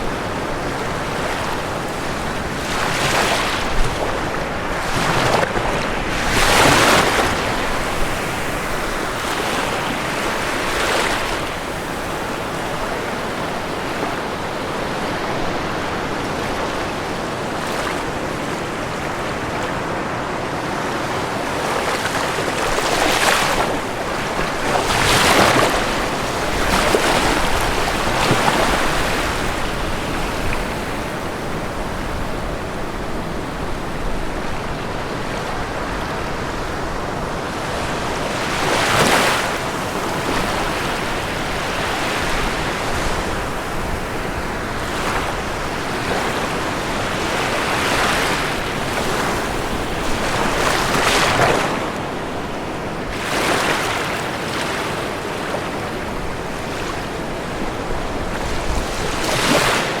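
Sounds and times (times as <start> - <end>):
ocean waves breaking on shore: 0.0 - 60.0.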